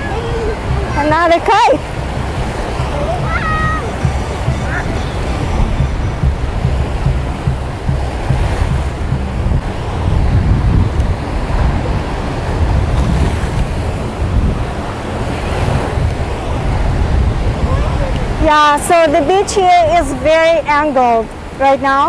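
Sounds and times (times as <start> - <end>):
ocean surf washing onto beach: 0.0 - 22.0
wind buffeting microphone: 0.0 - 22.0.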